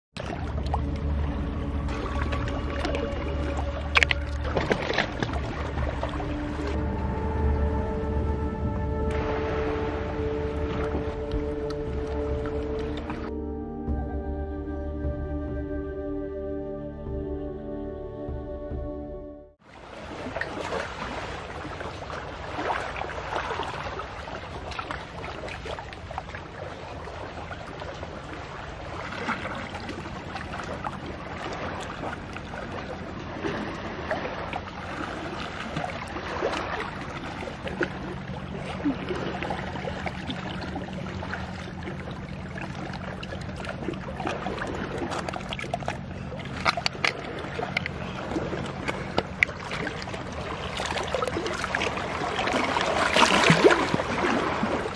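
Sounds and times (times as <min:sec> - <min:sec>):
seawater sloshing and splashing: 0:00.2 - 0:13.4, 0:19.6 - 0:54.9
low steady hum: 0:00.2 - 0:19.5, 0:21.6 - 0:54.9.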